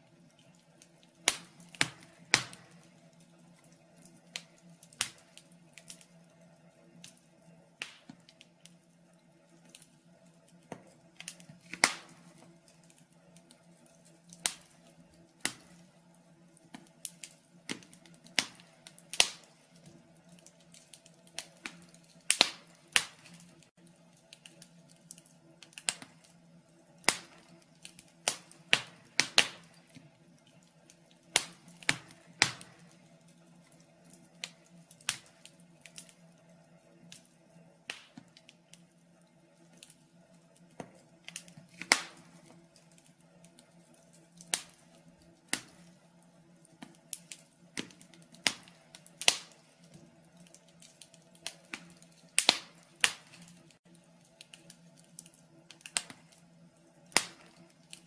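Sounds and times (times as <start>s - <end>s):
faint steady hum: 0.0s - 58.0s
wood fire crackling and popping: 0.0s - 58.0s.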